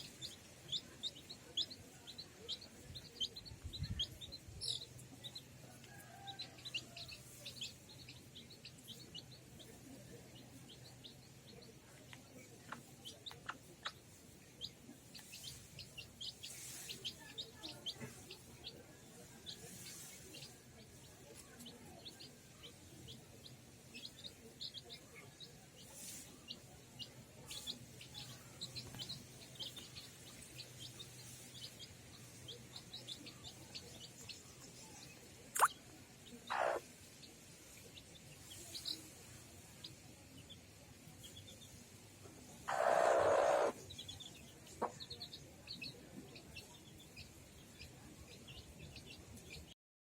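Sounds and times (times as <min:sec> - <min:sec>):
chicks peeping: 0:00.0 - 0:49.7.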